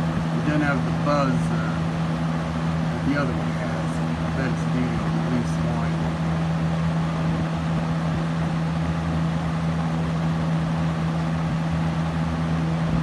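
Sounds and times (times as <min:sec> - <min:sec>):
fan air rushing: 0:00.0 - 0:13.0
fan motor low hum: 0:00.0 - 0:13.0.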